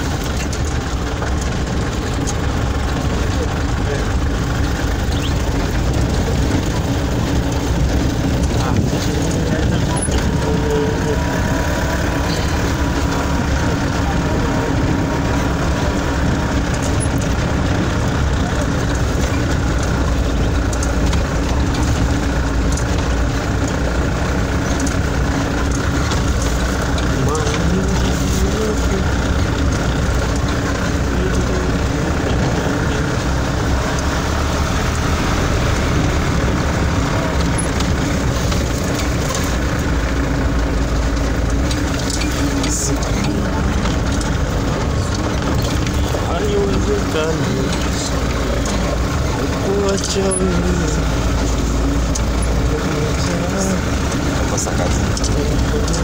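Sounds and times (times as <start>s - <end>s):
tyres rolling on gravel: 0.0s - 56.0s
vehicle engine running: 0.0s - 56.0s.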